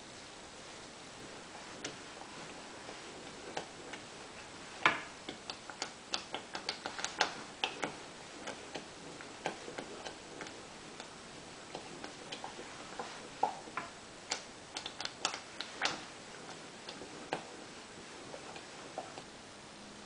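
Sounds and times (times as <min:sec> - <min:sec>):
thick porridge bubbling: 0:00.0 - 0:19.4
wooden spoon stirring in pot: 0:00.8 - 0:19.3.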